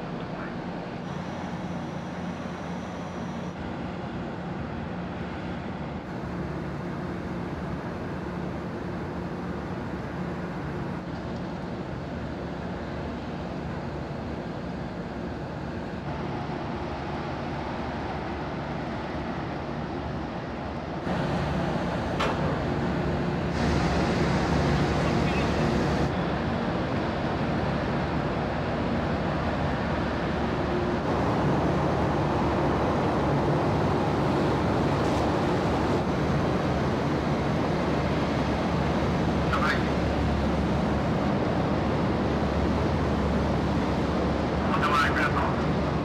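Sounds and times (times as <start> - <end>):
ship engines droning: 0.0 - 46.0.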